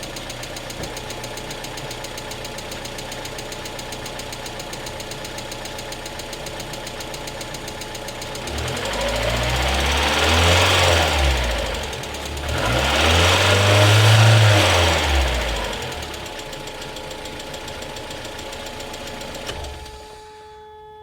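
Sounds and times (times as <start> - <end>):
engine lifter ticking: 0.0 - 20.0
car engine idling: 0.0 - 20.8.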